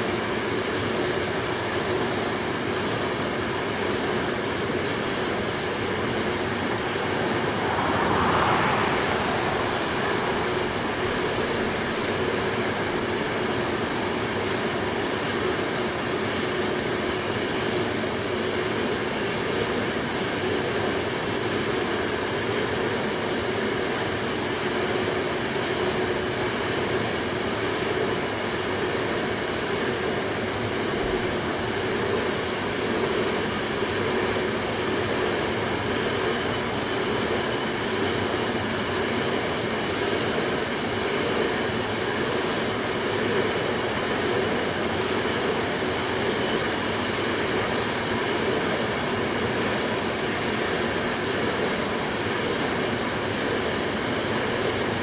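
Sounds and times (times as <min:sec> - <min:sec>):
freight train rumbling along track: 0:00.0 - 0:55.0.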